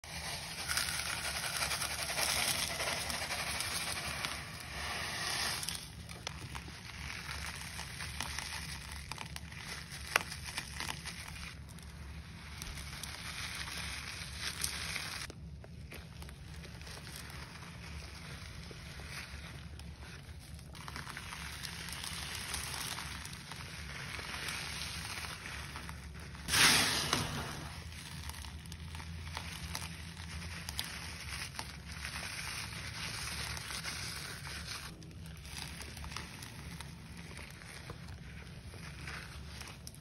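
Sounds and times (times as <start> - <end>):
gritty powder crunching: 0.0 - 40.0.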